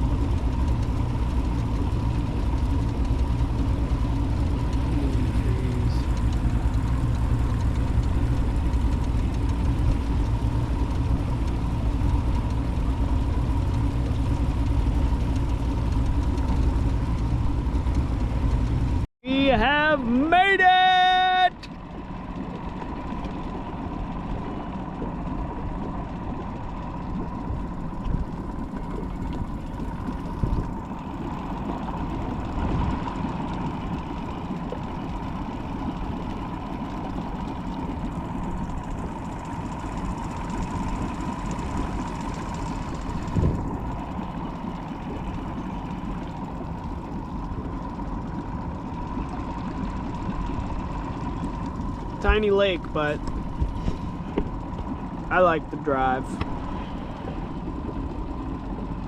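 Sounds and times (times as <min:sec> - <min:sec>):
motorboat engine droning: 0:00.0 - 0:59.0.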